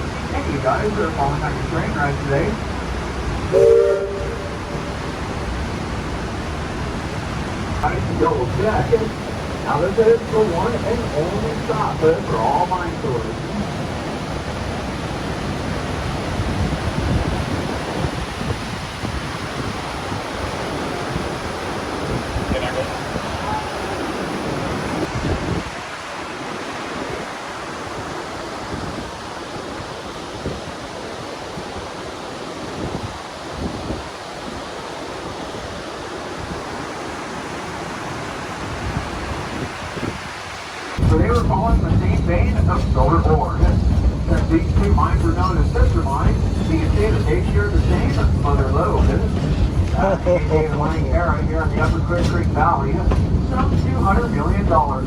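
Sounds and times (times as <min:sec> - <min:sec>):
train rumbling: 0:00.0 - 0:26.0, 0:32.7 - 0:55.0
wind buffeting microphone: 0:00.0 - 0:37.1, 0:37.8 - 0:55.0.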